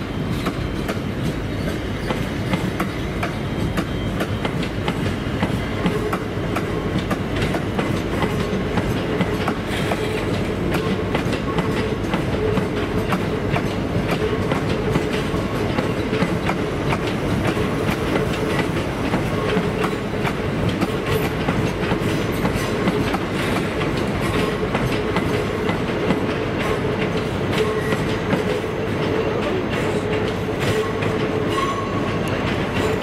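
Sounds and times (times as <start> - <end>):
train rumble: 0.0 - 33.0
train wheels clicking over rail joints: 0.0 - 33.0.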